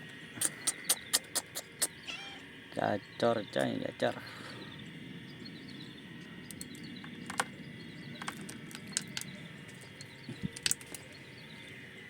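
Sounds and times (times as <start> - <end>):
low background rumble: 1.9 - 12.0.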